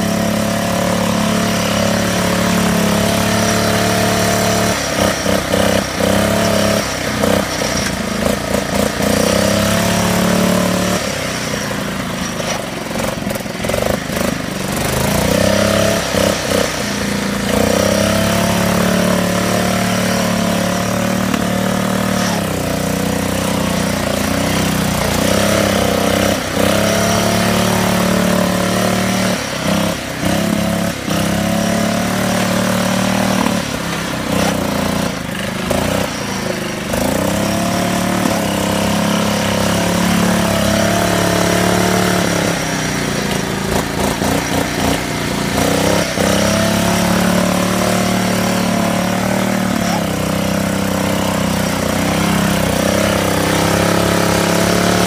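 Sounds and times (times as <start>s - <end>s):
lawn mower engine straining: 0.0s - 55.0s.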